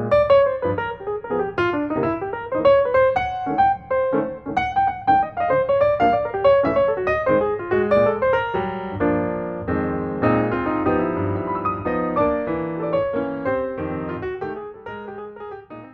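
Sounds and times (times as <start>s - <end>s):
piano music: 0.0s - 15.9s.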